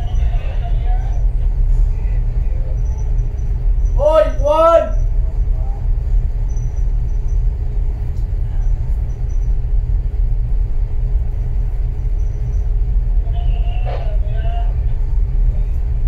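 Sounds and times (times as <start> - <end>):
faint steady hum: 0.0 - 16.0
ship engines rumbling: 0.0 - 16.0.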